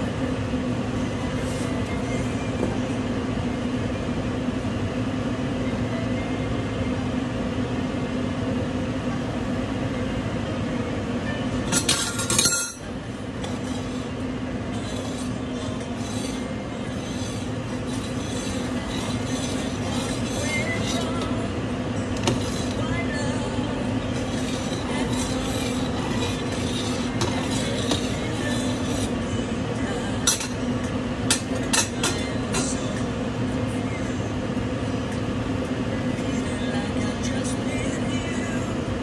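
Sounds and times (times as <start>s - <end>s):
water at a rolling boil: 0.0s - 39.0s.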